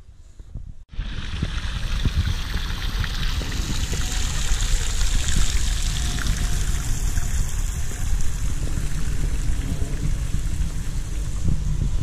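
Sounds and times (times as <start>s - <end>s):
fountain water splashing into pool: 0.9s - 12.0s.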